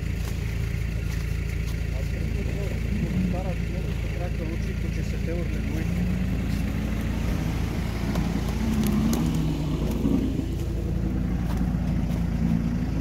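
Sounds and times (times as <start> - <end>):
engine idling with low hum: 0.0 - 13.0.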